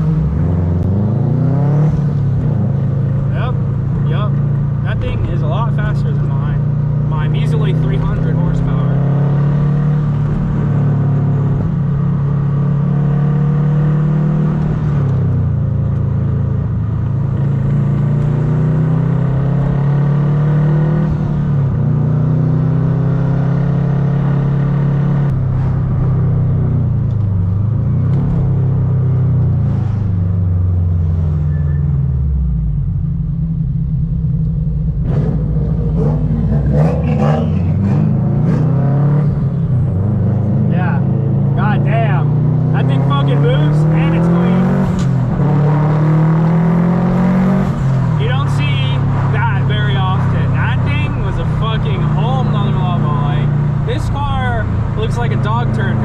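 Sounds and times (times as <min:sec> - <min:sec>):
car engine accelerating and shifting: 0:00.0 - 0:56.0.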